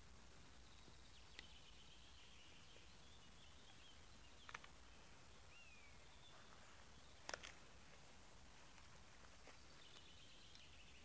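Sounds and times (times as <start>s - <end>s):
distant birdsong whistles: 0.0s - 7.8s, 9.4s - 11.0s.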